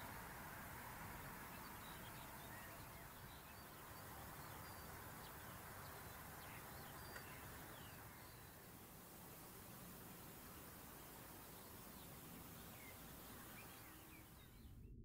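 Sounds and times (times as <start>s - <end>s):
steady background hiss: 0.0s - 14.8s
birds chirping and whistling: 1.2s - 14.9s.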